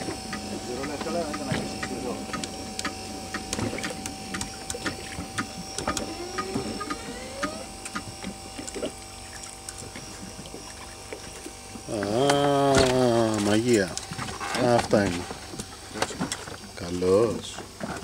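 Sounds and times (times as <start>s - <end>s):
electric fishing reel whine: 0.0s - 18.0s.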